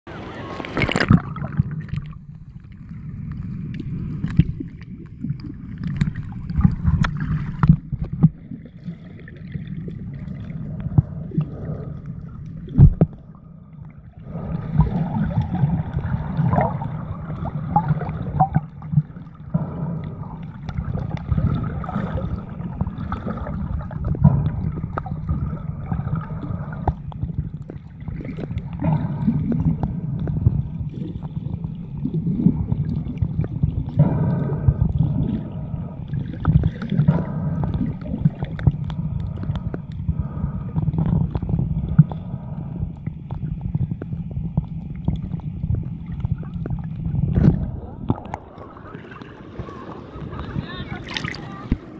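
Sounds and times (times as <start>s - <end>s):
underwater rumble of moving water: 0.0s - 51.9s
underwater clicks and knocks: 0.6s - 51.9s.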